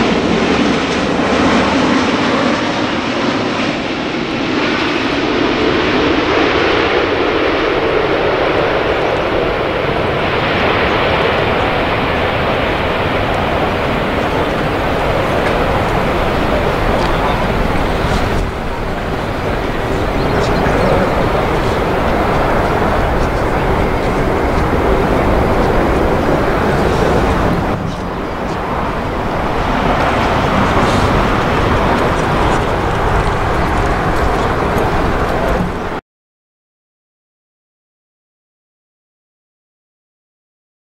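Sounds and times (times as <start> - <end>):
loud jet engine noise: 0.0 - 36.0.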